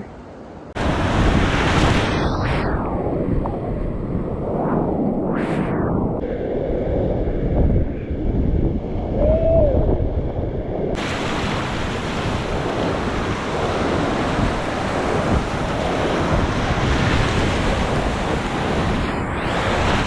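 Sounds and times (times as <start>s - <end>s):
wind buffeting microphone: 0.8s - 20.0s.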